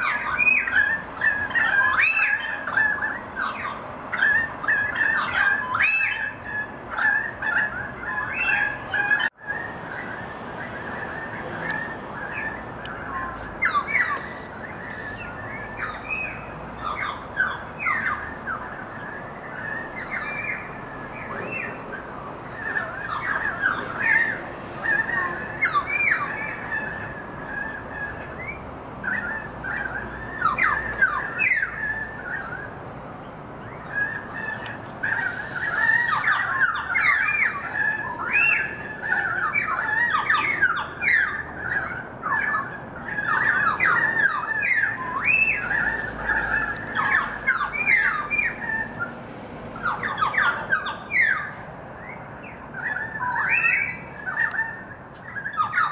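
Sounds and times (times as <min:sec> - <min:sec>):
birds calling: 0:00.0 - 0:55.9.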